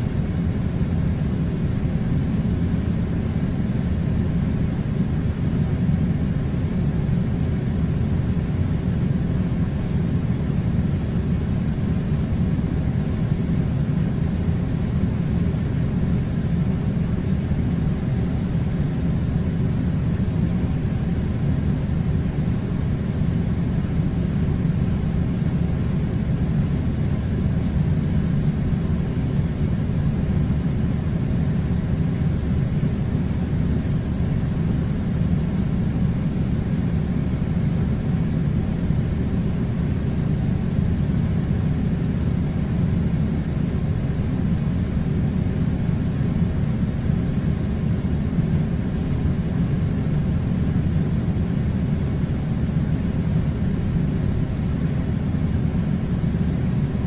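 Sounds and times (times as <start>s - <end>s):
air conditioning rumble: 0.0s - 57.0s.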